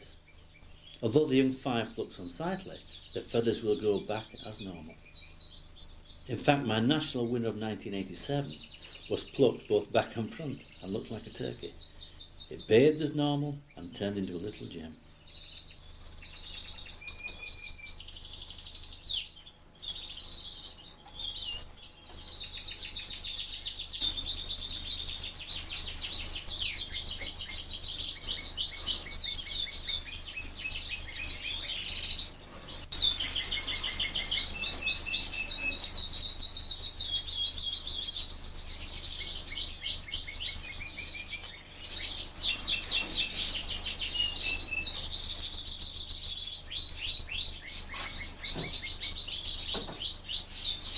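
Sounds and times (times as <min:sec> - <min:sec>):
canaries singing: 0:00.0 - 0:50.9.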